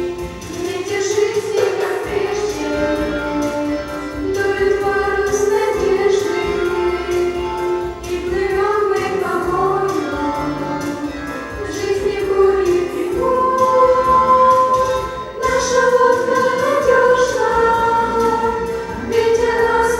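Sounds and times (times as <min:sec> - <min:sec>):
teenagers singing together: 0:00.0 - 0:19.9.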